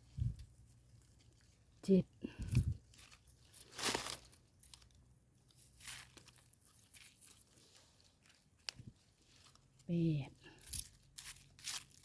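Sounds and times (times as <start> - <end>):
mushrooms pulled from soil rustling: 0.0 - 12.0.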